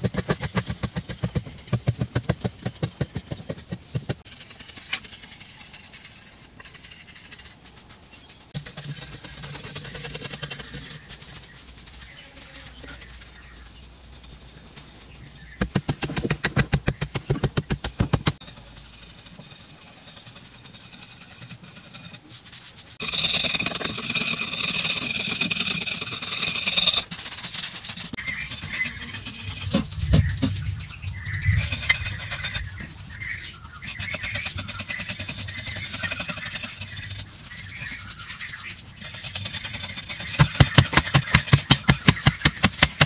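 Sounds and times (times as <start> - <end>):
hand tools scraping stone: 0.0 - 30.7, 31.4 - 43.0
loud hissing scrape: 0.0 - 43.0.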